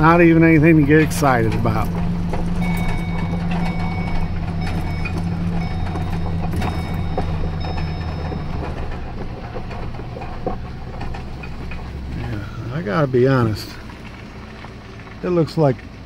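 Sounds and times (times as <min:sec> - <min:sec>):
road knocks and rattles: 0:00.0 - 0:16.0
truck engine running: 0:00.0 - 0:16.0.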